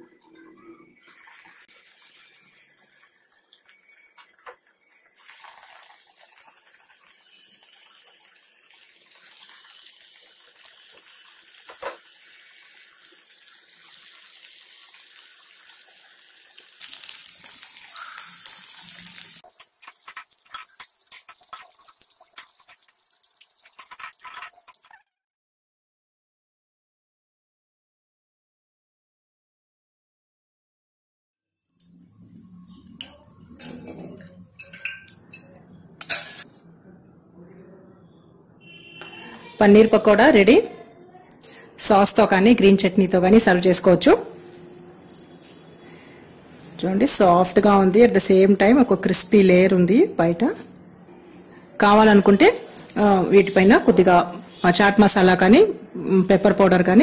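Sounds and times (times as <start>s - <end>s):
batter deep-frying in hot oil: 0.7s - 25.0s, 31.8s - 36.8s, 38.0s - 57.0s.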